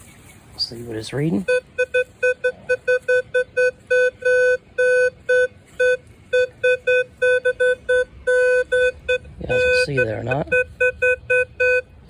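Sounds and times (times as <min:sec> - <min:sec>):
metal detector beeping: 0:01.4 - 0:11.9.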